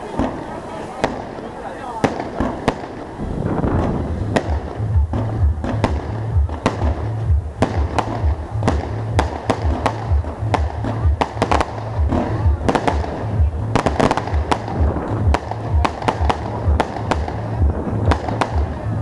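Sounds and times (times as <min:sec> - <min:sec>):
fireworks bangs: 0:00.0 - 0:19.0
fireworks crackling: 0:00.0 - 0:19.0
deep bass music beat: 0:03.4 - 0:19.0.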